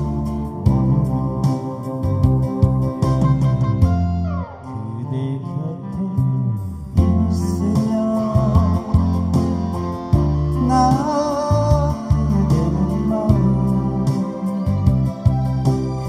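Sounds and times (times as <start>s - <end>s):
live band music: 0.0s - 16.0s.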